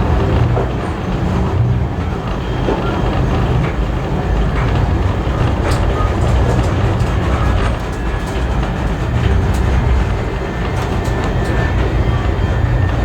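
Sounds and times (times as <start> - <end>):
train wheels rumbling on rails: 0.0 - 13.0
faint clicks and rattles: 2.4 - 13.0.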